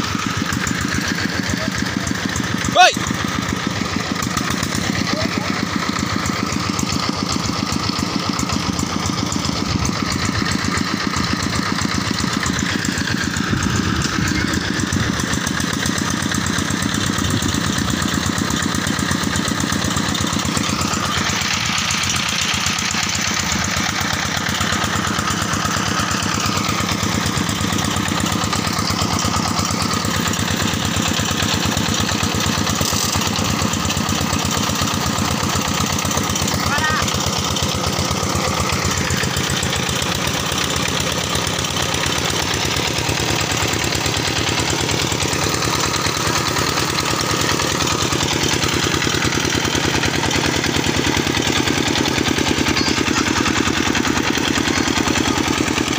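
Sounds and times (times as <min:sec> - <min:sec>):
diesel tractor engine chugging: 0:00.0 - 0:55.9.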